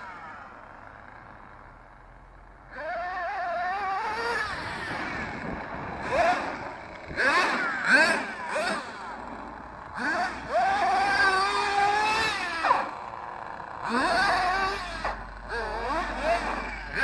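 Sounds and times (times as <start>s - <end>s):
engine throttle bursts: 0.0s - 17.0s
rc truck nitro engines revving: 0.0s - 17.0s.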